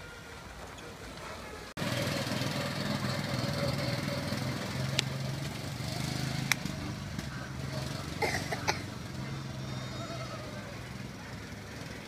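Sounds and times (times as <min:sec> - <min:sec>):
small petrol engine running: 0:01.8 - 0:12.0.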